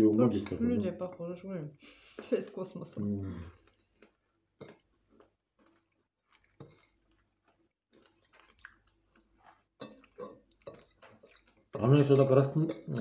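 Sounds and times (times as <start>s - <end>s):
people chewing: 1.8s - 13.0s.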